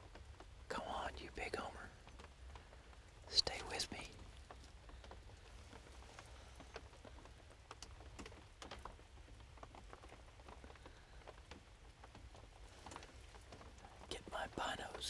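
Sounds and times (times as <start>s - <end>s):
raindrops ticking: 0.0s - 15.0s.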